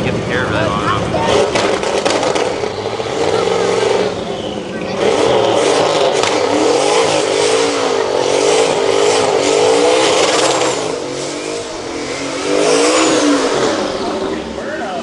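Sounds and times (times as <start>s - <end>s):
race engine revving: 0.0s - 15.0s.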